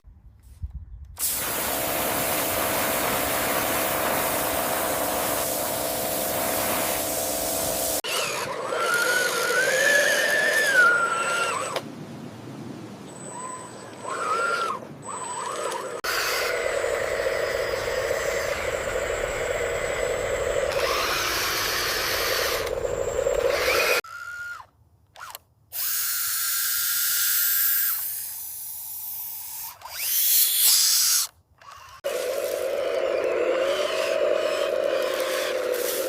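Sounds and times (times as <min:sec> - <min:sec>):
toy electric motors whirring: 0:01.2 - 0:11.8, 0:13.4 - 0:36.0.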